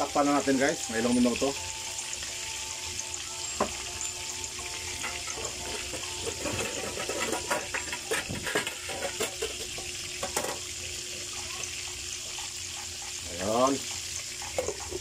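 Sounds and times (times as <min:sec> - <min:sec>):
deep-frying sizzle with pops: 0:00.0 - 0:15.0.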